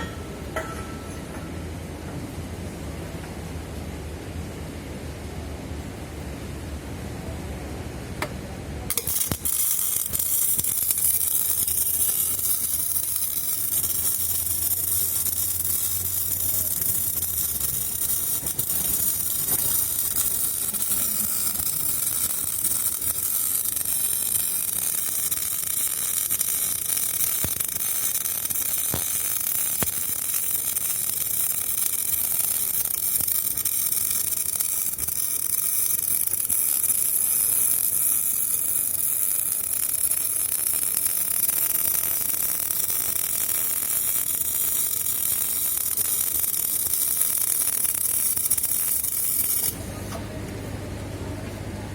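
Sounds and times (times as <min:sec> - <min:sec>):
welding arc burning: 0:08.2 - 0:50.2.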